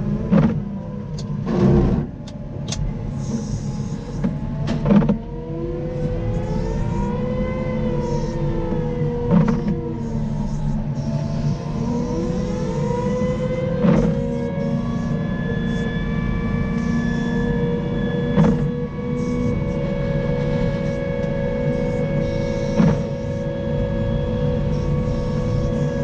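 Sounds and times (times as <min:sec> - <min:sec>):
wheel loader engine drone: 0:00.0 - 0:26.0.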